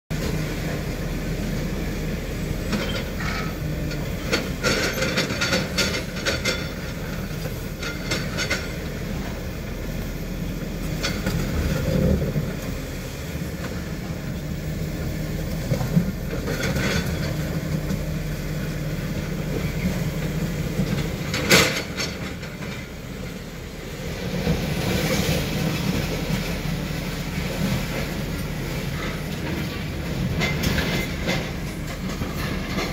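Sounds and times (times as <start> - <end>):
excavator engine running: 0.2 - 32.9.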